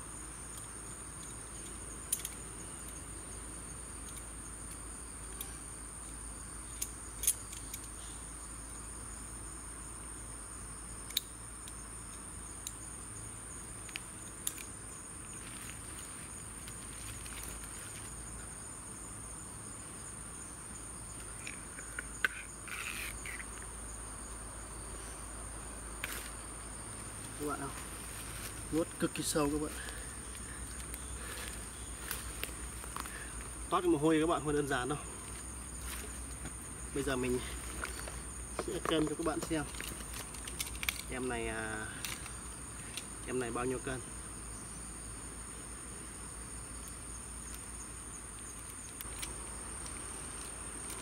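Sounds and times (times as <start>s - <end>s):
insects droning: 0.0s - 51.0s.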